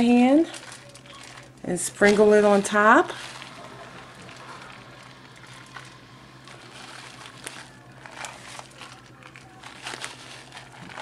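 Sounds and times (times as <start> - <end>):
cheese sprinkled on food rustling: 0.0 - 11.0
low steady hum: 0.0 - 11.0.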